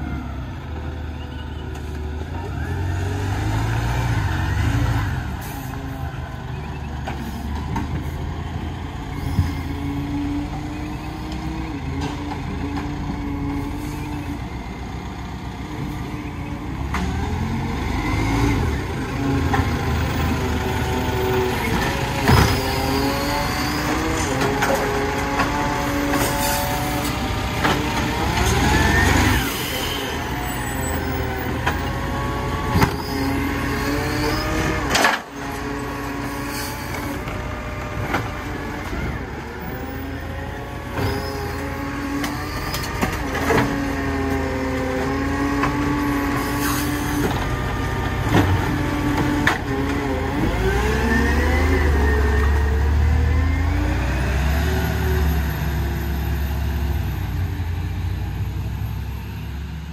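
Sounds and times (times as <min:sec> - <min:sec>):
garbage truck running: 0:00.0 - 0:59.9.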